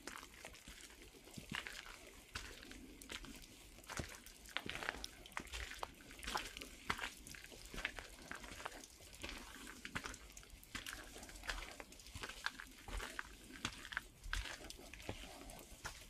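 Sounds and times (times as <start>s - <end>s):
footsteps on wet gravel: 0.0s - 16.0s.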